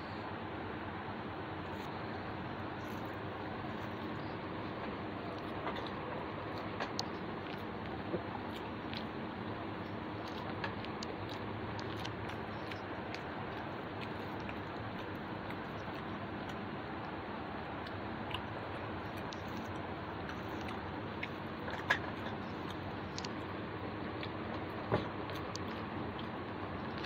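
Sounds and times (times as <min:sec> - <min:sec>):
person chewing: 0:02.6 - 0:27.0.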